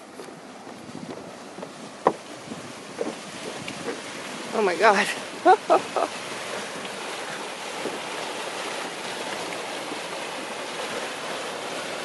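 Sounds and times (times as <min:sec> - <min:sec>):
mud pool hissing and churning: 0:00.0 - 0:12.0.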